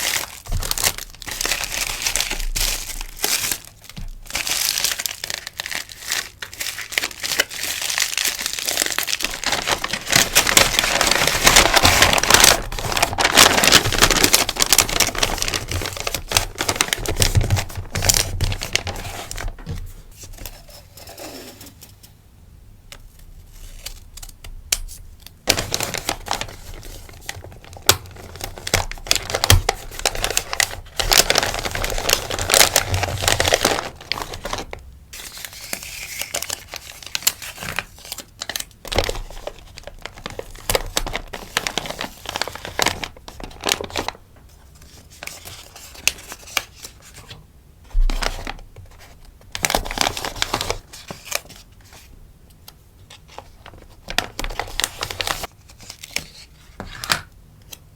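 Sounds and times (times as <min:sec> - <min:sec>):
packaging crinkling: 0:00.0 - 0:19.9, 0:25.4 - 0:47.3, 0:48.0 - 0:52.1, 0:53.1 - 0:57.3.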